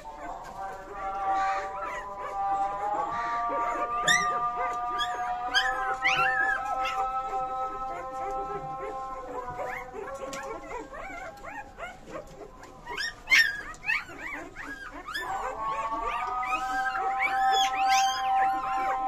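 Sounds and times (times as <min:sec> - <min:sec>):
puppies squeaking and whimpering: 0:00.0 - 0:19.0.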